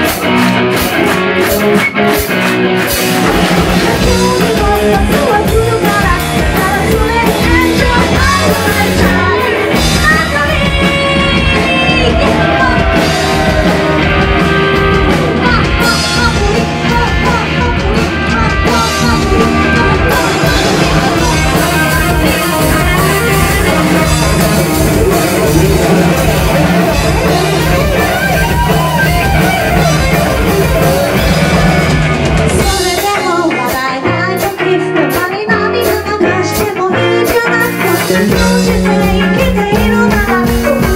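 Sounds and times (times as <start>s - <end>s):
live rock band playing: 0.0s - 40.9s
woman singing: 3.7s - 31.4s, 32.5s - 40.9s.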